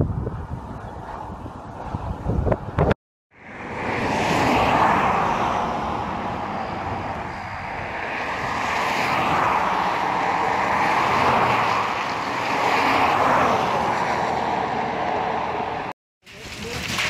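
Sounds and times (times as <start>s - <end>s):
outdoor rushing noise: 0.0s - 17.0s.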